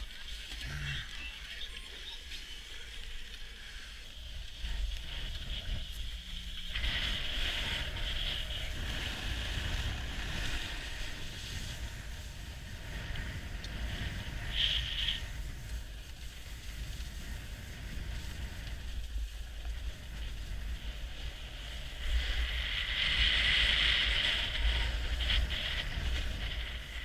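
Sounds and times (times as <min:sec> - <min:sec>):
snowboard sliding over snow: 0:00.0 - 0:27.0
wind rumbling on microphone: 0:00.0 - 0:27.0.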